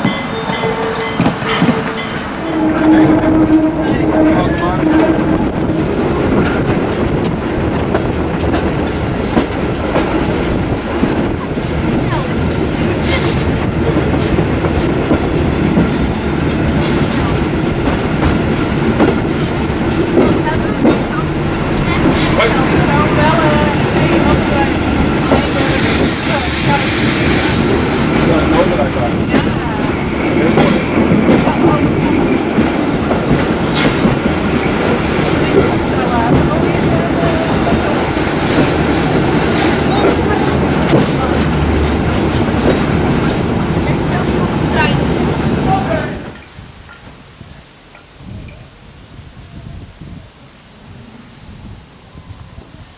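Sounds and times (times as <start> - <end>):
train running on rails: 0.0 - 52.9.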